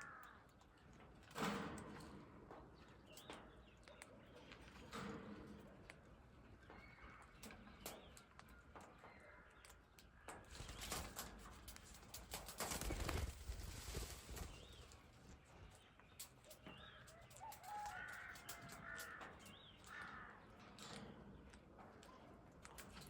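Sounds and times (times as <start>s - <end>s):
birds chirping: 2.8s - 23.0s.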